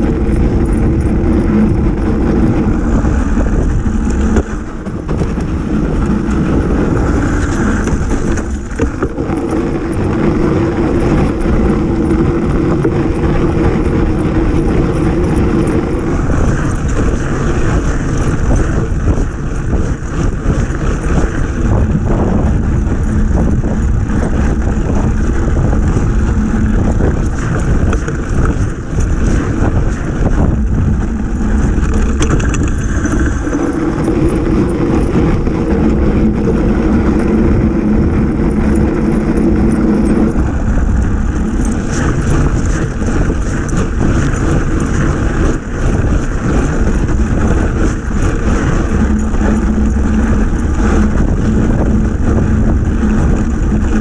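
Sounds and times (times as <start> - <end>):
heavy low rumble: 0.0 - 54.0
vehicle engine running: 0.0 - 54.0.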